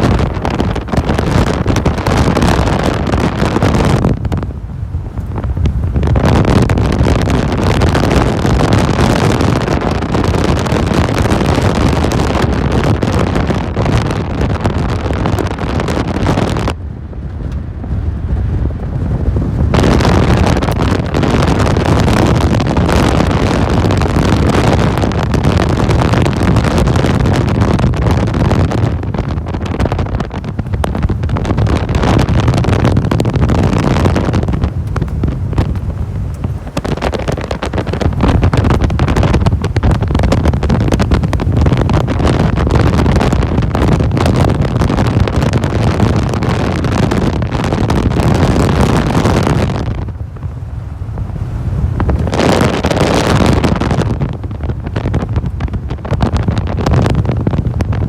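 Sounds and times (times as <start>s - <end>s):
vehicle running and road noise: 0.0s - 58.0s
wind buffeting microphone: 0.0s - 58.0s.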